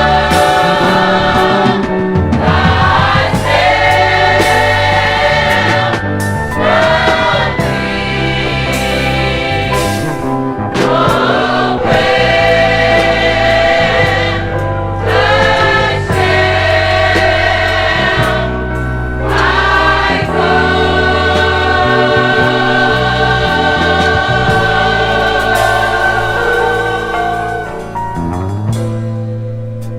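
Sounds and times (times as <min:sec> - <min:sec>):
choir singing held chords: 0:00.0 - 0:28.4
steady bass line: 0:00.0 - 0:29.9.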